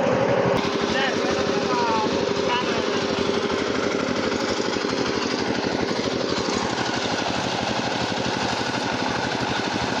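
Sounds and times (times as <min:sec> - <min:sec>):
sawmill engine running: 0:00.0 - 0:10.0.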